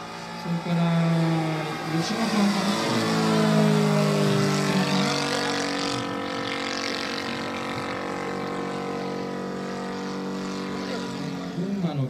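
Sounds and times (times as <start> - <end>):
model airplane engine drone: 0.0 - 12.0.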